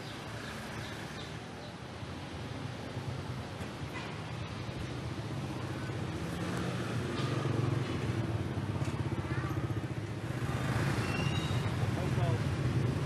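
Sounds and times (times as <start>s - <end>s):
car engines passing: 0.0s - 13.0s
motorbike engines passing: 0.0s - 13.0s.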